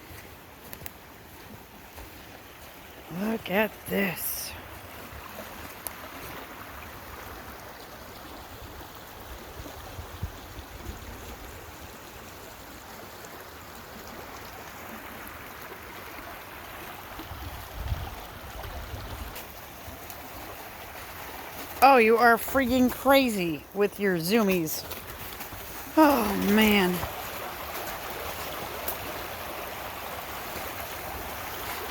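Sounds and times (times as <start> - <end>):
creek rushing: 0.0 - 31.9.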